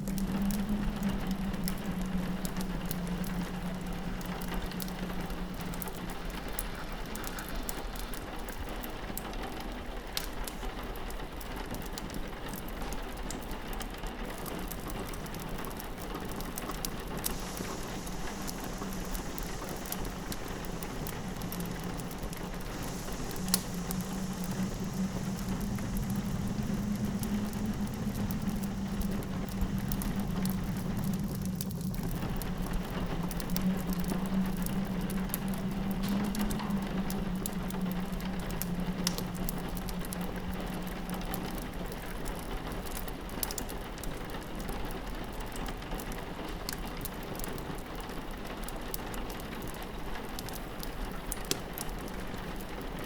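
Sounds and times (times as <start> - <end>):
fireplace crackling: 0.0 - 9.3, 11.8 - 53.0
low wind rumble: 0.0 - 53.0
rain pattering on a window: 0.0 - 53.0.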